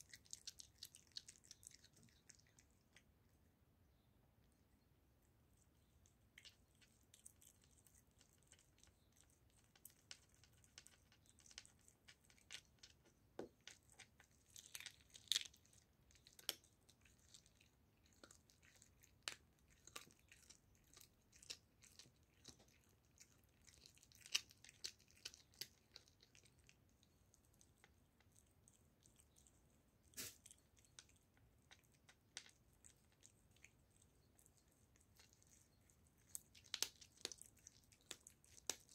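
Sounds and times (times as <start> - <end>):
cat chewing bone: 0.0 - 3.2, 6.0 - 38.9.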